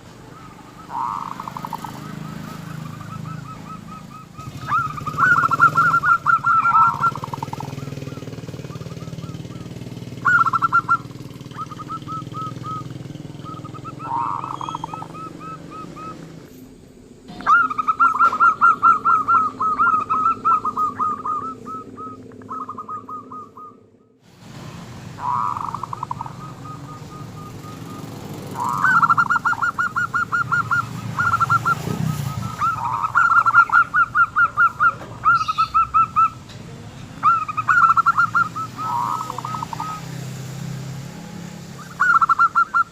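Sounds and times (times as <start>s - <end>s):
doves cooing: 0.0s - 24.2s, 25.0s - 42.9s.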